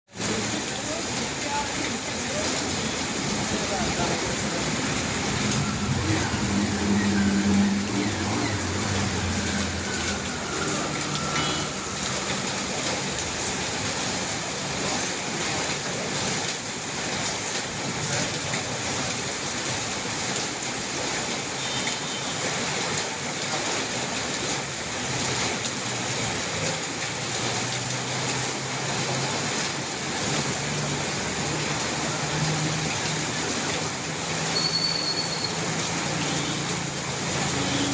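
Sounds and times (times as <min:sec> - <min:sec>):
heavy rain hissing: 0:00.1 - 0:37.9.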